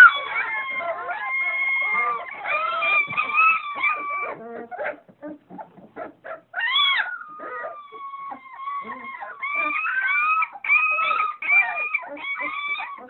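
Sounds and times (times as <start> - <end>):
puppies whining and squeaking: 0.0 - 13.0.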